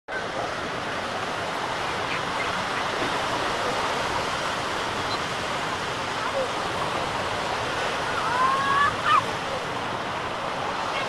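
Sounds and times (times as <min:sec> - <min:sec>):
surf breaking on sandy shore: 0:00.1 - 0:11.0.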